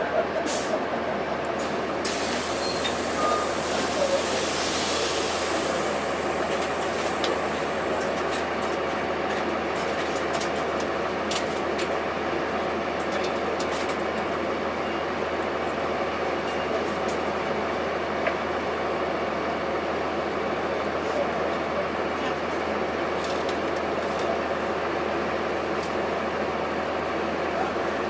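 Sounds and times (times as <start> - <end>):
bus diesel engine running: 0.0 - 28.0.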